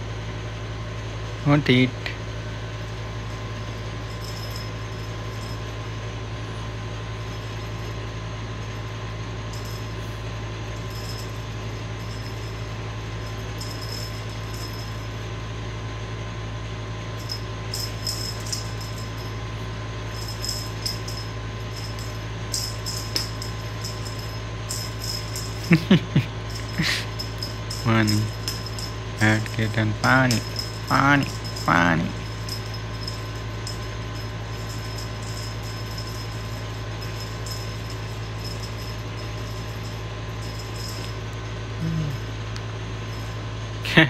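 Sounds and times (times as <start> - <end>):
appliance humming: 0.0 - 44.0
rustles and clicks of cats playing: 2.4 - 15.8, 16.4 - 43.6.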